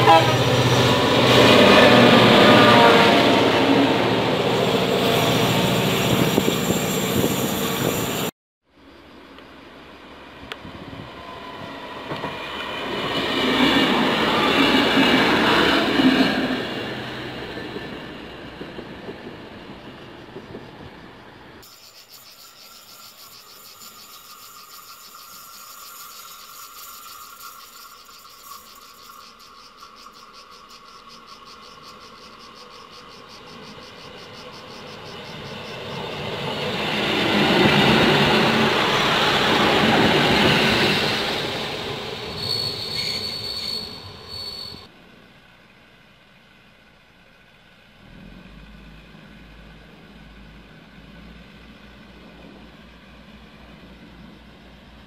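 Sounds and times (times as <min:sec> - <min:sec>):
train passing: 0:00.0 - 0:08.3, 0:09.1 - 0:46.6, 0:48.2 - 0:55.0
train rumble: 0:00.0 - 0:08.3, 0:09.3 - 0:21.7, 0:22.9 - 0:46.5, 0:48.0 - 0:55.0.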